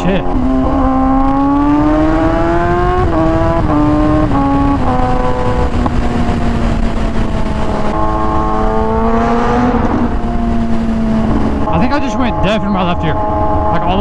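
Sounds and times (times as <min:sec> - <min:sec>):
low rumble: 0:00.0 - 0:14.0
motorcycle engine shifting gears: 0:00.0 - 0:14.0.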